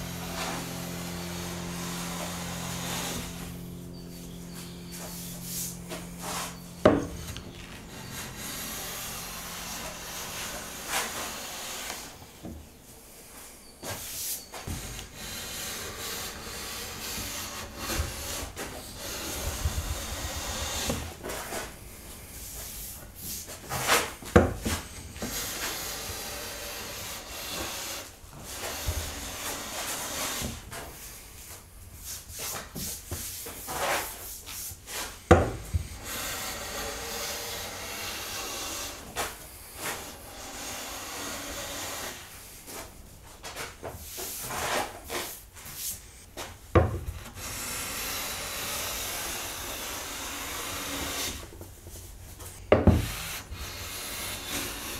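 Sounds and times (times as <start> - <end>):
hand plane swishing along wood: 0.0 - 12.6, 13.8 - 54.9.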